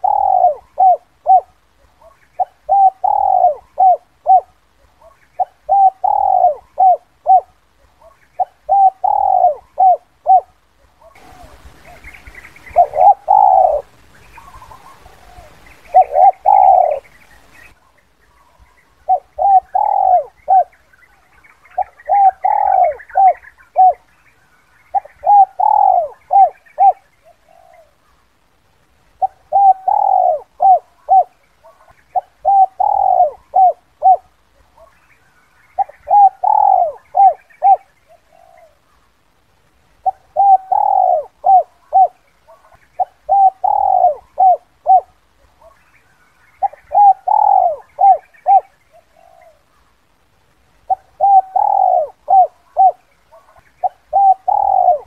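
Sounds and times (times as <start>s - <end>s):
dove cooing: 0.0s - 24.2s, 24.9s - 28.2s, 29.2s - 35.0s, 35.6s - 39.0s, 40.0s - 49.9s, 50.8s - 55.0s
small birds chirping faintly: 0.0s - 55.0s.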